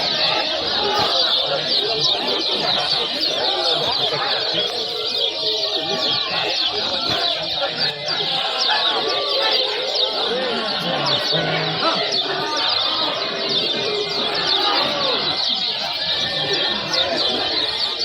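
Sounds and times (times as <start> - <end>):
birds chattering in chorus: 0.0 - 18.0.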